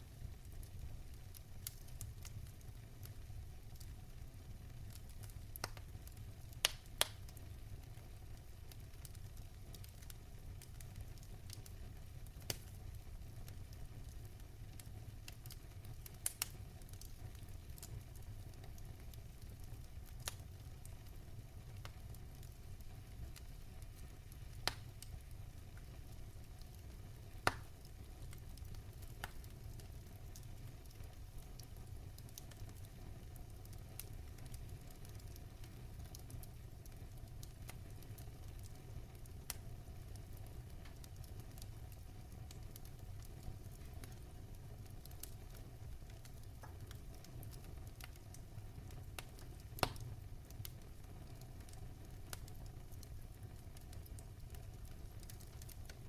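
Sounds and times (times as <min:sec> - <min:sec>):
fire crackles and pops: 0:00.0 - 0:56.0
wood fire burning: 0:00.0 - 0:56.0.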